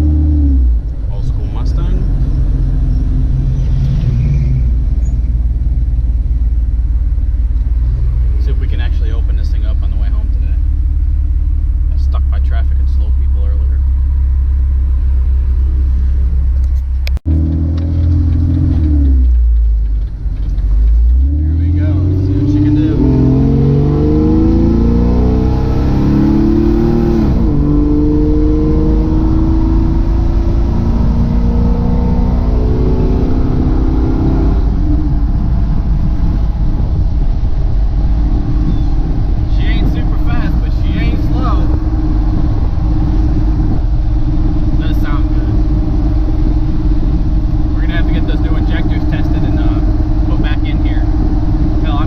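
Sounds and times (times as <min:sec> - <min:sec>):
car engine accelerating: 0:00.0 - 0:52.0
road noise rumble: 0:00.0 - 0:52.0.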